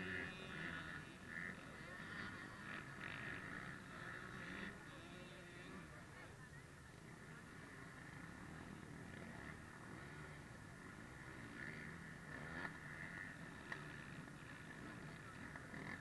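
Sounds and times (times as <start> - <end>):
faint motorcycle engines revving: 0.0 - 16.0.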